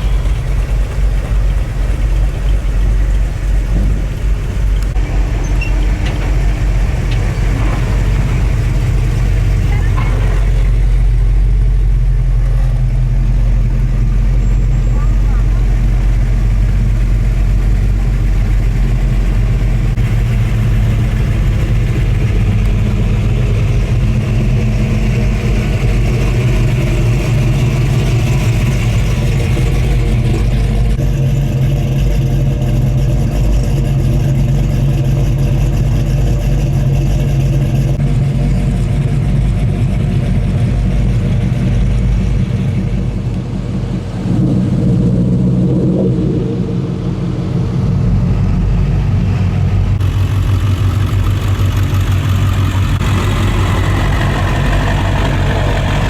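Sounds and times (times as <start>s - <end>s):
cars driving slowly past: 0.0s - 56.0s.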